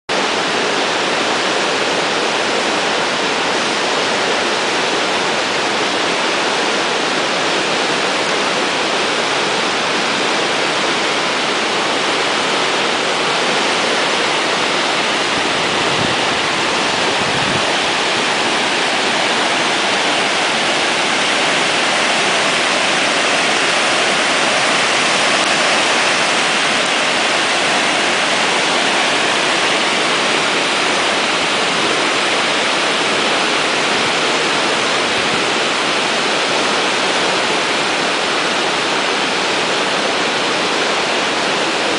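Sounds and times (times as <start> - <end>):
water rushing down spillway: 0.1 - 41.9.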